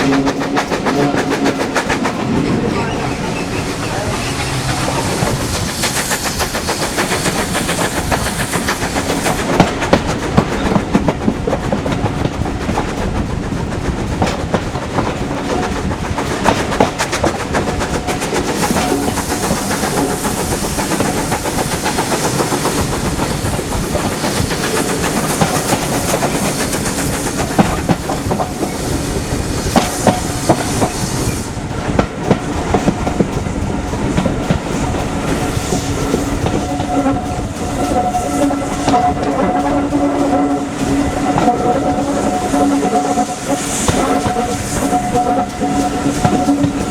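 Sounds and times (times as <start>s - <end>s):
train rumbling and rattling: 0.0s - 46.9s
wheels clicking over rail joints: 0.0s - 46.9s.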